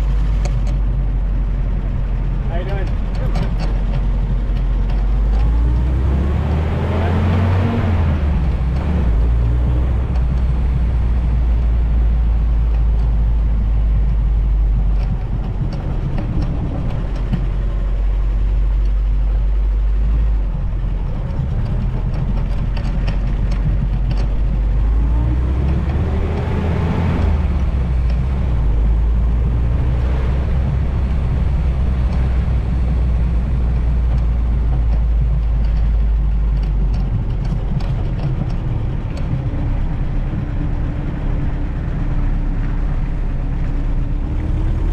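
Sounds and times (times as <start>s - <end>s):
car engine running: 0.0s - 44.9s
wind rumble on microphone: 0.0s - 44.9s.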